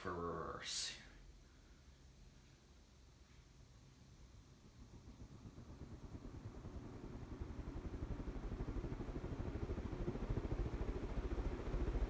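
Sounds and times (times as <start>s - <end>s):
ceiling fan running: 0.0s - 12.0s.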